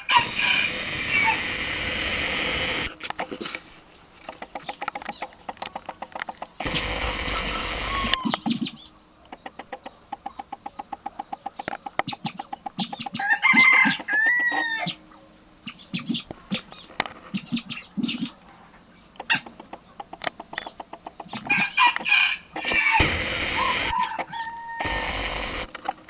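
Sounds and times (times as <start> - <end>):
fowl clucking: 0.0 - 1.5, 2.8 - 26.0
fowl calling: 0.0 - 26.0.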